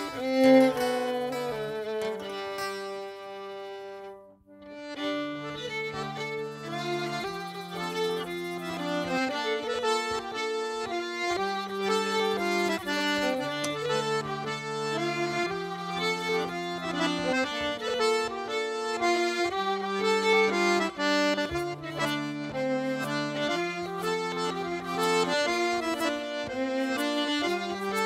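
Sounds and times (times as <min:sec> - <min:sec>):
accordion dance tune: 0:00.0 - 0:28.0.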